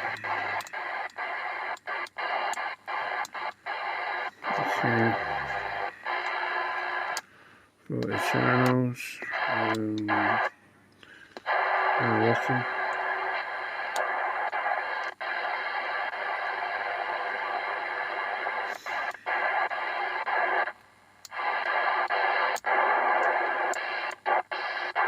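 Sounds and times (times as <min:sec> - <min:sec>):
faint steady tones: 0:00.0 - 0:25.0
radio static hiss: 0:00.0 - 0:25.0.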